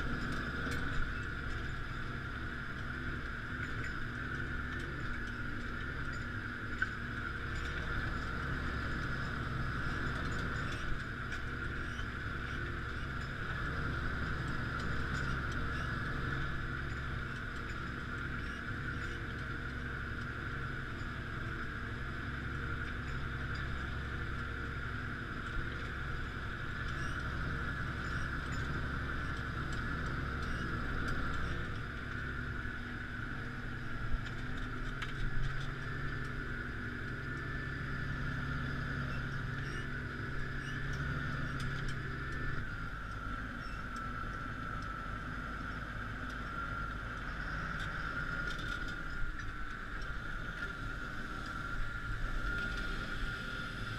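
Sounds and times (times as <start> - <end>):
high-pitched whine: 0.0 - 53.9
tractor engine running: 0.0 - 53.9.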